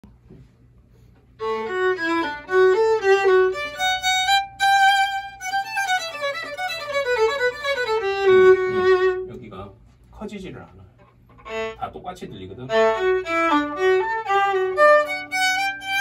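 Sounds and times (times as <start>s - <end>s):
bowed violin notes: 1.4s - 9.8s, 11.4s - 16.0s.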